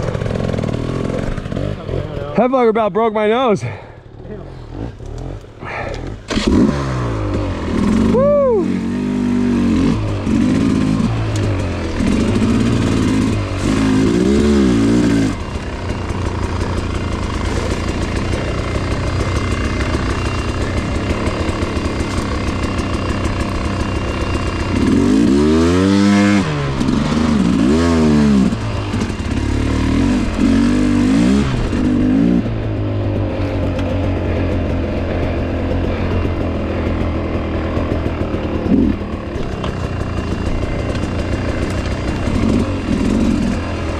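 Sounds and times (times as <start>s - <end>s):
two-stroke dirt bike engine revving: 0.0s - 43.9s.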